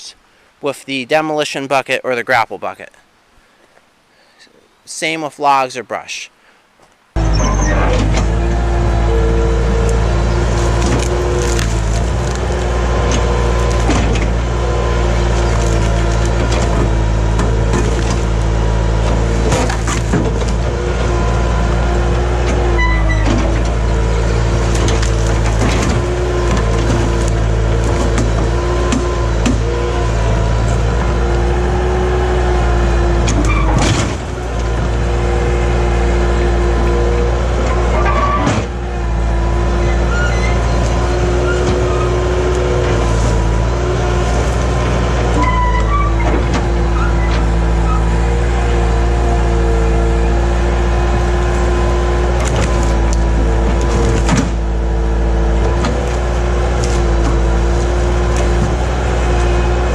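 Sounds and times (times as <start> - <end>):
loader engine running with whine: 7.1 - 59.9.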